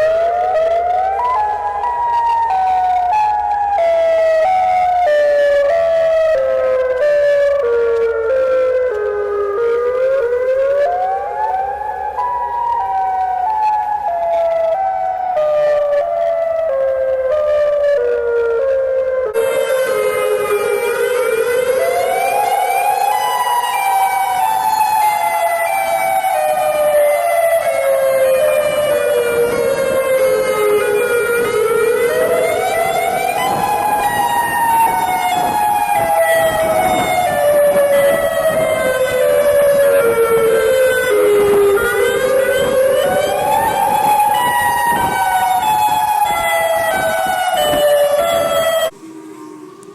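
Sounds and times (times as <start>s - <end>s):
tornado siren wailing: 0.0s - 49.9s.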